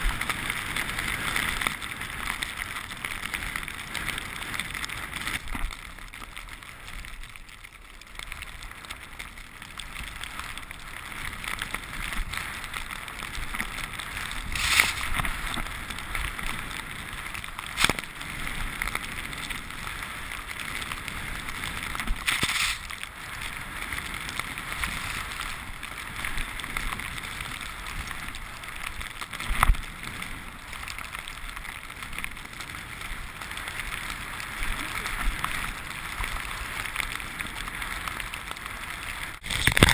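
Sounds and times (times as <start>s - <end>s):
snowboard sliding through powder: 0.0s - 7.3s, 8.1s - 39.9s.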